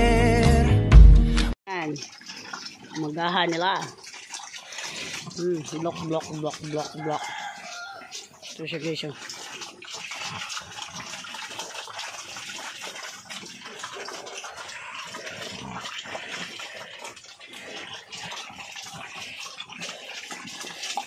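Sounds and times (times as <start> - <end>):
pigs slurping and chomping feed: 1.7 - 21.0.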